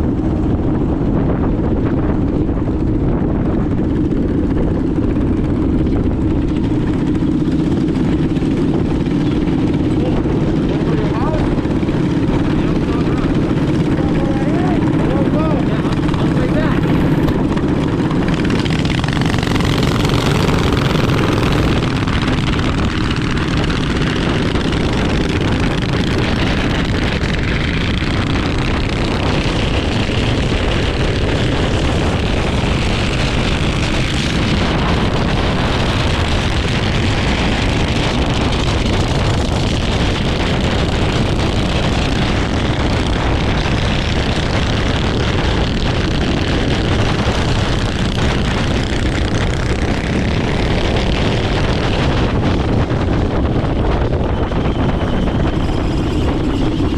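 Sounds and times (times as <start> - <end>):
minibike engine running: 0.0 - 56.9
wind on microphone: 0.0 - 56.9.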